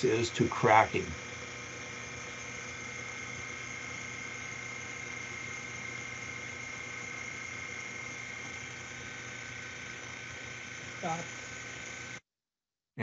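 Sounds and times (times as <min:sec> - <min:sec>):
steady hum and hiss: 0:00.0 - 0:12.2
thin high whine: 0:00.0 - 0:12.2.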